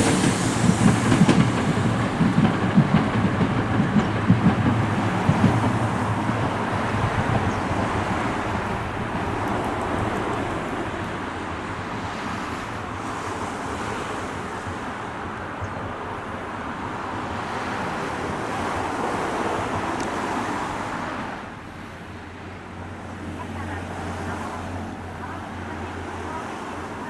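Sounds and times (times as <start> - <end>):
electric train rushing: 0.0 - 27.0.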